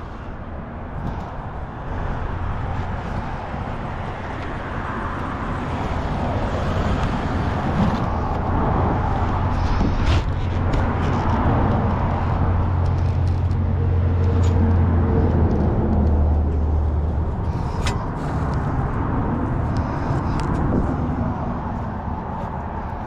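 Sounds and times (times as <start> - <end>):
truck engine humming: 0.0 - 23.0.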